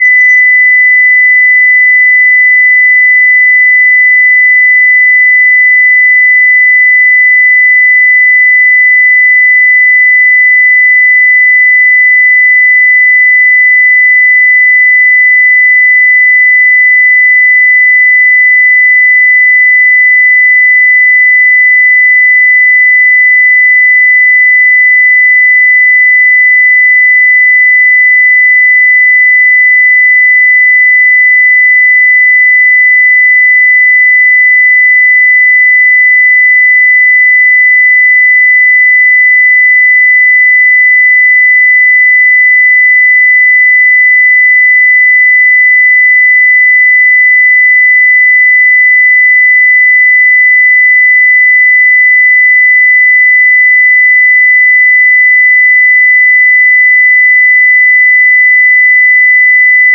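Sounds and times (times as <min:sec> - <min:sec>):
sine-wave test tone: 0:00.0 - 0:59.9.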